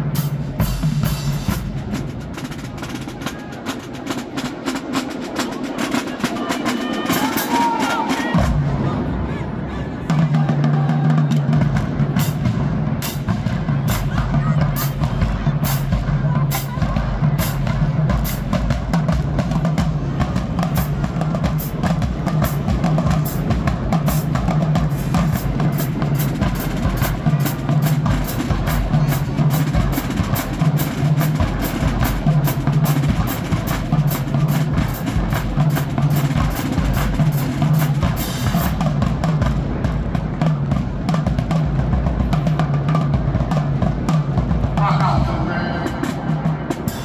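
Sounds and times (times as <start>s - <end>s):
cymbals: 0.0s - 47.0s
marching bass drum tones: 0.0s - 47.0s
snare and tenor drums: 0.0s - 47.0s.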